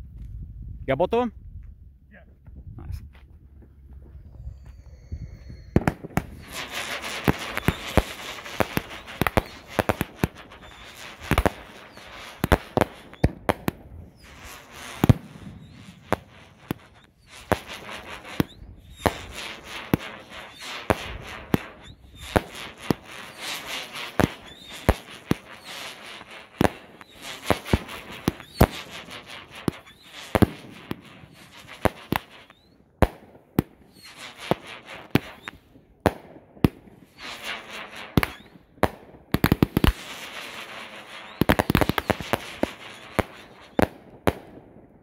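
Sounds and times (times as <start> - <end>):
firework whistling hiss: 4.2 - 35.8, 36.9 - 44.4
firework bangs: 5.4 - 44.9.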